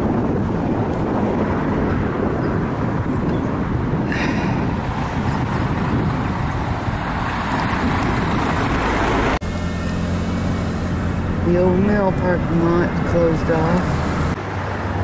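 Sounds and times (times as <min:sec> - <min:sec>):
low engine hum: 0:00.0 - 0:15.0
car rumble and hiss: 0:02.9 - 0:15.0.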